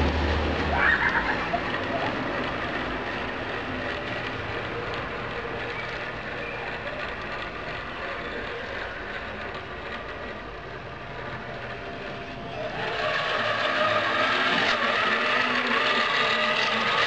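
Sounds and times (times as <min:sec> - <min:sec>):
rc truck motor whine: 0:00.0 - 0:17.0.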